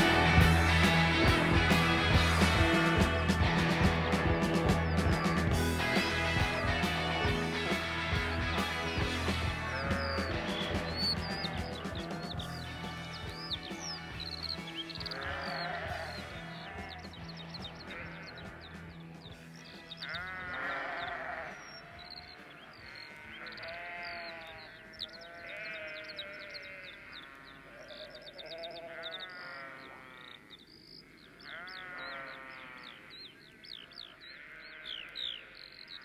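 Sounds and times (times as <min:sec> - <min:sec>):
sheep bleating: 0:00.0 - 0:36.0
small birds chirping: 0:00.0 - 0:36.0.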